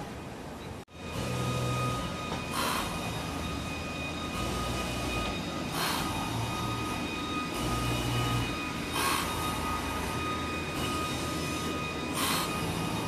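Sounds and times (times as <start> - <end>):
rush of train noise: 0.0 - 13.0
subway train high-pitched squeal: 0.5 - 13.0.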